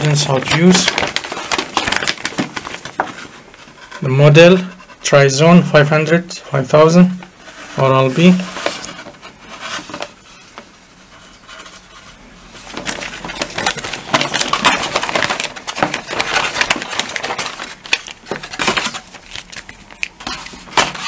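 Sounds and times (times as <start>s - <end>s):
paper leaflet rustling: 0.0s - 5.2s, 7.4s - 21.0s.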